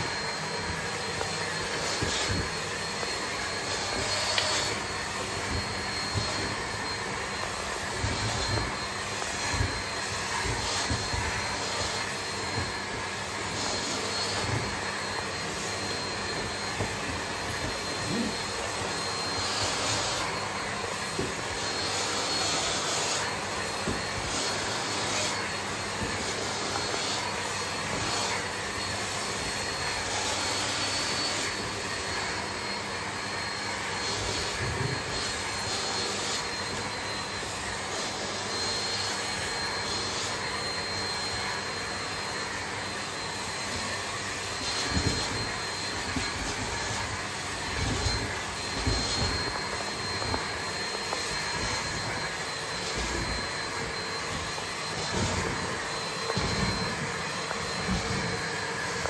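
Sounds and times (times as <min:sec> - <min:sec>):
vacuum cleaner suction hiss: 0:00.0 - 0:59.0.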